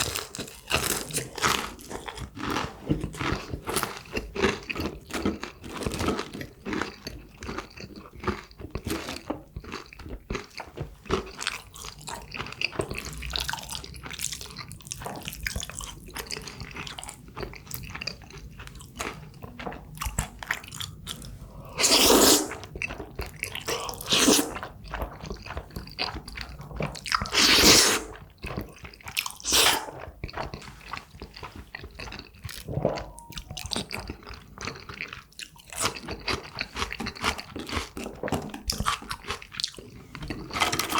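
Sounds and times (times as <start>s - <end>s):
man chewing and crunching food: 0.0s - 40.9s.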